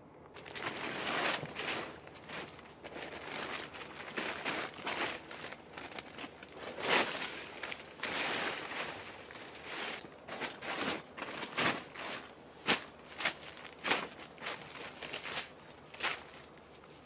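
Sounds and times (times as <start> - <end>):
crunching and rustling: 0.2 - 17.0.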